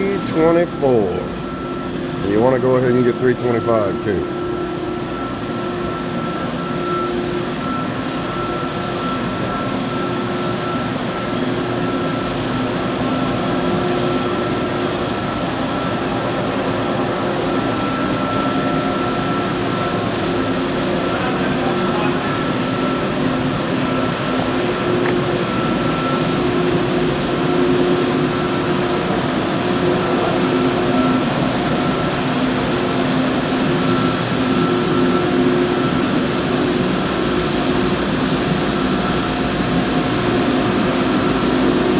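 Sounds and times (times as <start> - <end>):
mechanical hum: 0.0 - 41.9.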